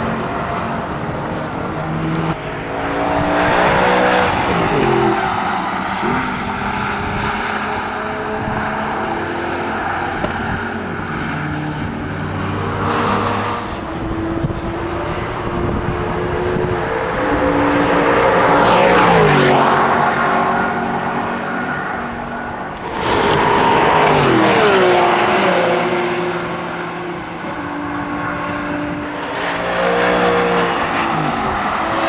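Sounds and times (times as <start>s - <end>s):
race car passing by: 0.0s - 32.0s.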